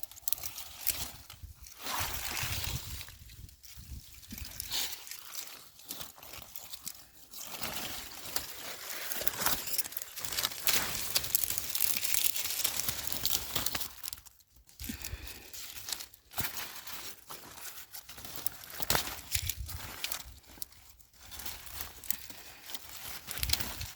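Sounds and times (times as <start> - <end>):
dry plants rustling and crackling: 0.0 - 23.9.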